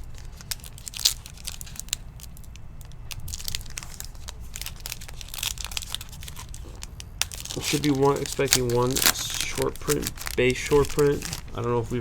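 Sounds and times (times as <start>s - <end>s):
cards clicking and snapping: 0.0s - 11.7s
card wrappers crinkling: 0.0s - 12.0s.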